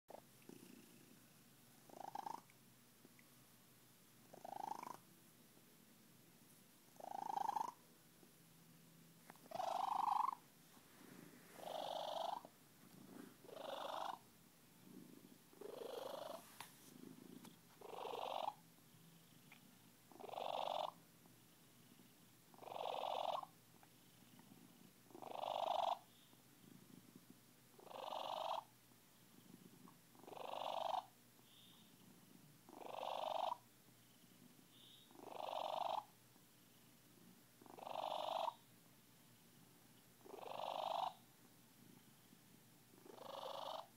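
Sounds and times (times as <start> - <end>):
cat purring: 0.1 - 3.2, 4.2 - 5.2, 6.9 - 43.9.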